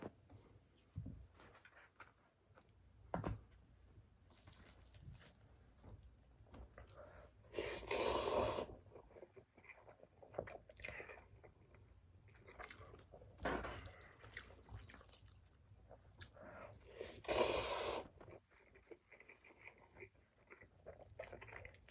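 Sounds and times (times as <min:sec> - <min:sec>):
soft chewing: 0:03.5 - 0:21.9.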